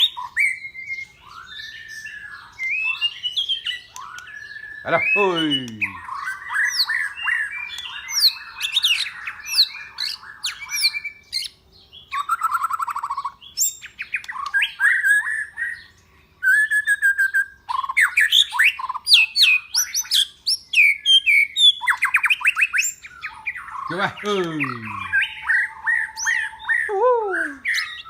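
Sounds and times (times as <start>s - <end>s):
bird trilling and whistling: 0.0s - 28.0s.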